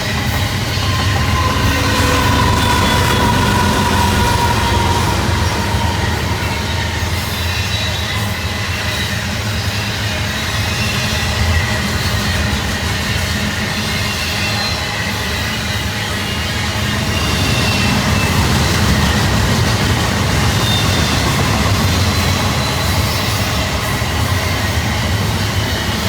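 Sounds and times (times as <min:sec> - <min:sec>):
freight train cars rumbling past: 0:00.0 - 0:26.0
high wheel squeals: 0:00.0 - 0:26.0.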